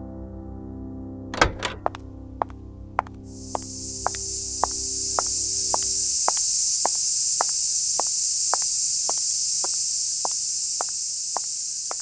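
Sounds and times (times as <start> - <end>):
steady high-pitched hiss: 1.9 - 12.0.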